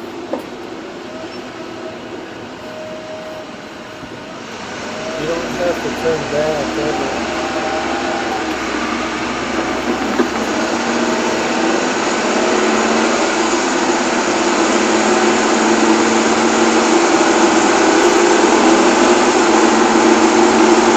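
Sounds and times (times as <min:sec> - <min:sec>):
vehicle engine and road noise: 0:00.0 - 0:20.9.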